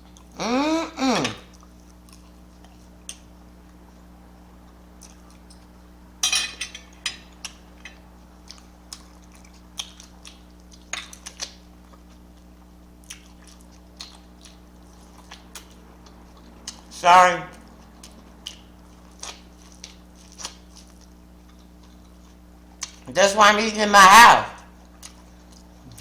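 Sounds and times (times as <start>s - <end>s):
person chewing with wet smacks: 0.0s - 0.4s, 1.3s - 5.8s, 7.3s - 23.1s, 24.6s - 26.0s
low electrical hum: 0.0s - 26.0s.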